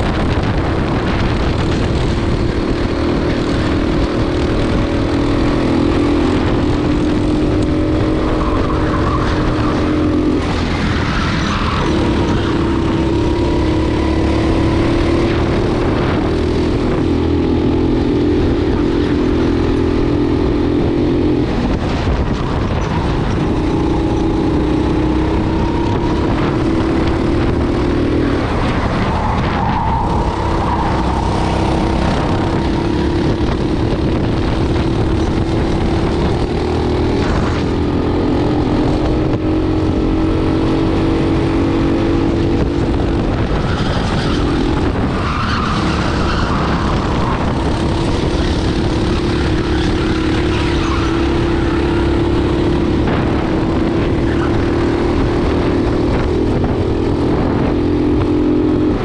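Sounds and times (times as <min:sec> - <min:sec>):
kart engine at race pace: 0:00.0 - 0:59.0
road rumble: 0:00.0 - 0:59.0
wind: 0:00.0 - 0:59.0.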